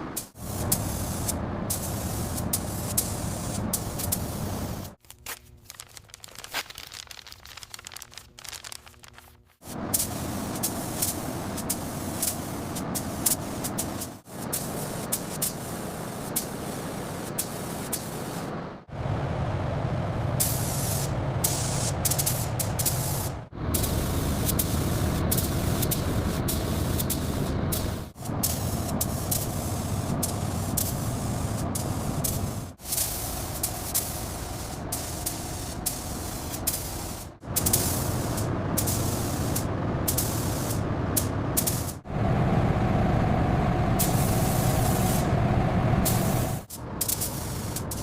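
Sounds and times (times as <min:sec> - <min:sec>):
compressed air spraying hiss: 0:00.2 - 0:05.0, 0:09.6 - 0:18.6, 0:20.4 - 0:42.0, 0:44.0 - 0:45.3, 0:46.0 - 0:48.0.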